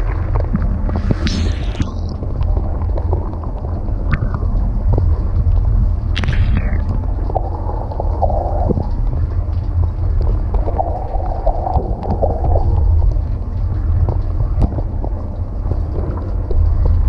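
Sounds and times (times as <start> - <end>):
wash pump low rumble: 0.0 - 17.0
sharp clicks of water striking: 0.5 - 7.6, 8.6 - 17.0.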